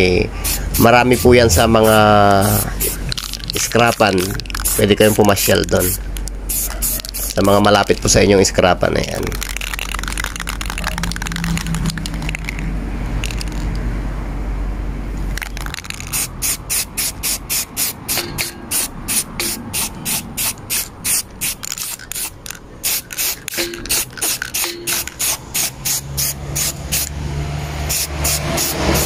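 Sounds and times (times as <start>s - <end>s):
spray paint can spraying: 0.4s - 13.9s, 15.3s - 29.0s.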